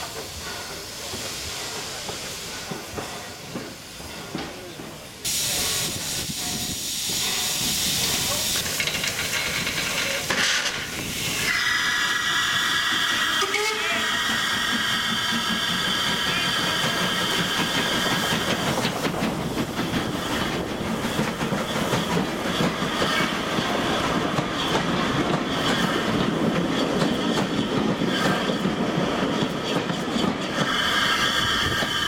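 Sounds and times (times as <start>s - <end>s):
steam hiss: 0.0s - 26.6s, 30.5s - 32.0s
train rumble: 0.0s - 32.0s
train wheels clicking over joints: 0.0s - 32.0s.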